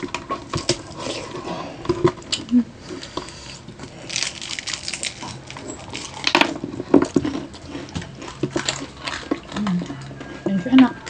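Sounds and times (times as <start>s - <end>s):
crunching crispy pork skin: 2.1s - 11.0s.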